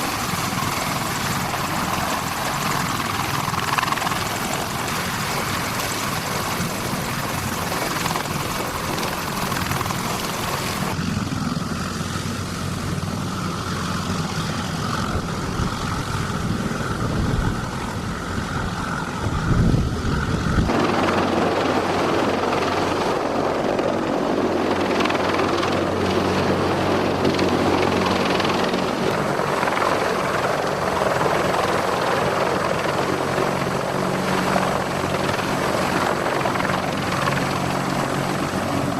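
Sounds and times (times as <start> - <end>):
helicopter engines and rotors: 0.0 - 38.9.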